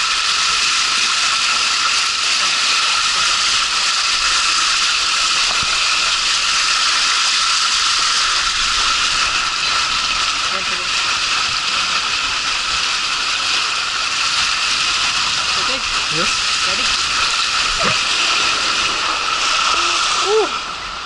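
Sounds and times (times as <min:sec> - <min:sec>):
water rushing down a slide: 0:00.0 - 0:21.0.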